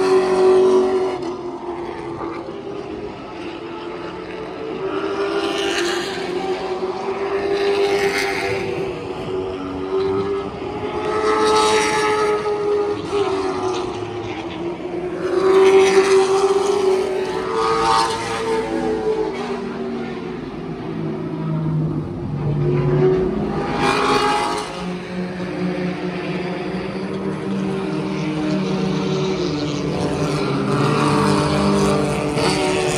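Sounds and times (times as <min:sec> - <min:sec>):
race car engines passing: 0:00.0 - 0:32.9.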